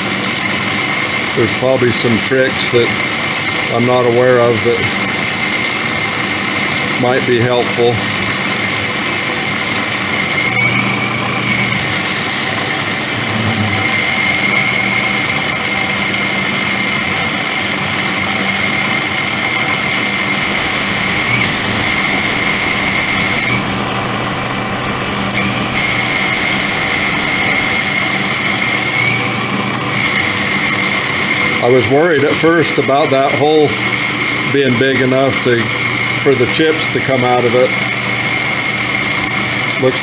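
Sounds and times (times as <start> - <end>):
high machine whine: 0.0 - 40.0
machine tool boring metal: 0.0 - 40.0.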